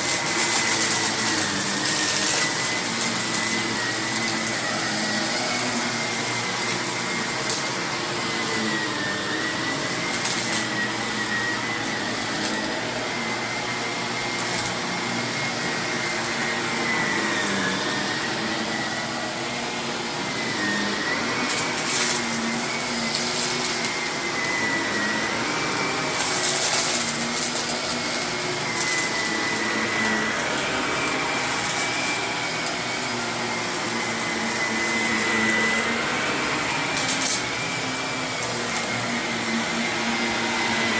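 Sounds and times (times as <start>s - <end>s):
grit crackling in vacuum: 0.0s - 40.9s
vacuum cleaner motor whine: 0.0s - 40.9s.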